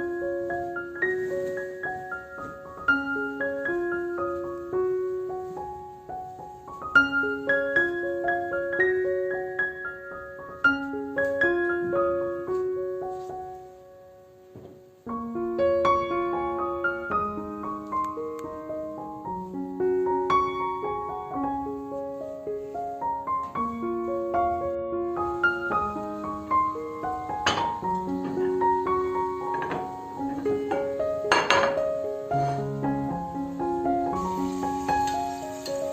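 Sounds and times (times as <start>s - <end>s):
gentle solo piano music: 0.0s - 35.9s.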